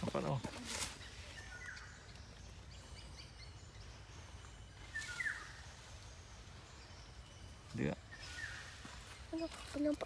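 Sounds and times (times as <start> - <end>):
bird chirping call: 1.0 - 10.0.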